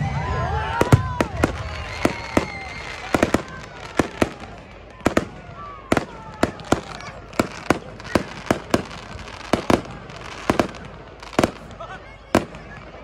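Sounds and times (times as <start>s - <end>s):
firework shells bursting: 0.8s - 11.8s.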